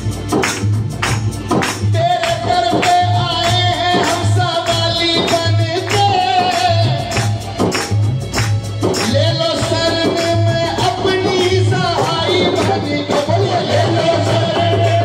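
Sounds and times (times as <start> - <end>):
keyboard accompaniment: 0.0 - 15.0
sharp percussion strokes: 0.0 - 15.0
steady drum beat: 0.0 - 15.0
man singing into a microphone: 1.8 - 15.0.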